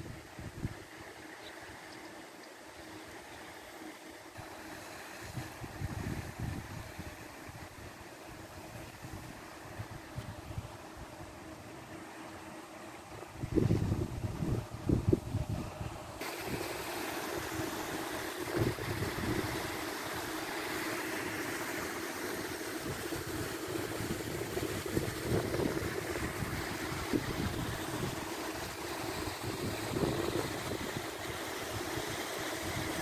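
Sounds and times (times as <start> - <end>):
paddlewheel aerators churning water: 0.0 - 33.0.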